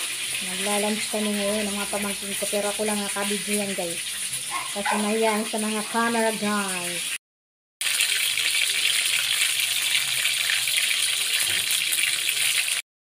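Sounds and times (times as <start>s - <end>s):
chicken sizzling in hot oil: 0.0s - 7.2s, 7.8s - 12.8s.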